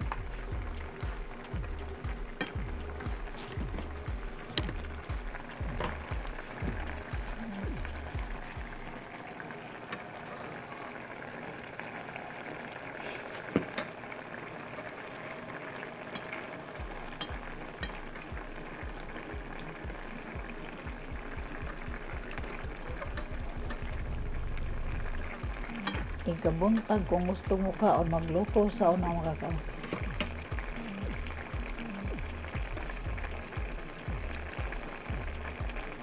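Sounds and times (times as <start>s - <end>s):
food sizzling in a pan: 0.1s - 36.0s.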